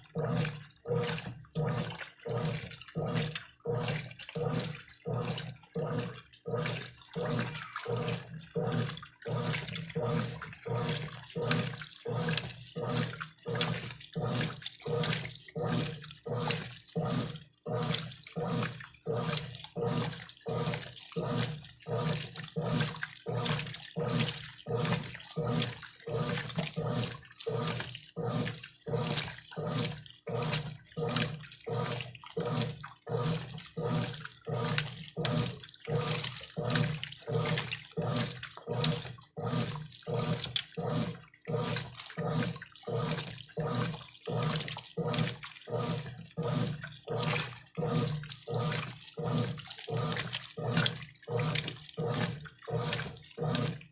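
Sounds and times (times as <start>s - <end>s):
washing machine motor humming: 0.0s - 53.9s
washing machine water sloshing: 0.0s - 53.9s.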